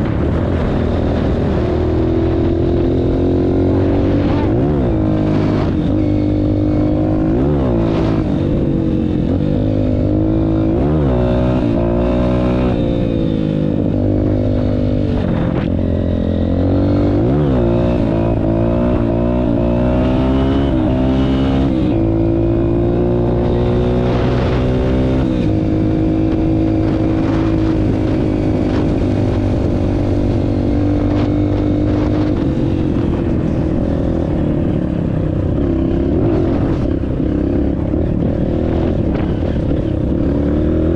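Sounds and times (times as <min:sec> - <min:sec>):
dirt bike engine revving: 0:00.4 - 0:34.4.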